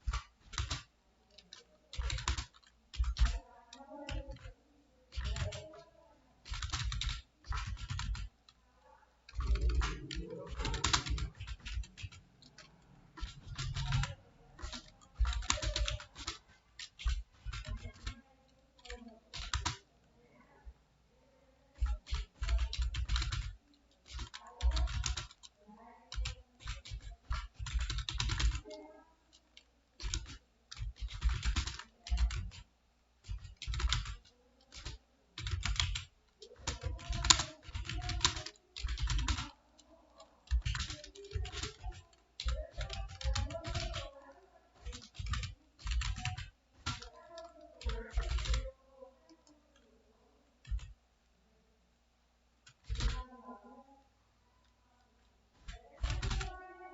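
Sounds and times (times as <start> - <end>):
keyboard typing: 0.0 - 20.0, 21.8 - 49.8, 50.6 - 51.0, 52.6 - 53.6, 55.6 - 56.9.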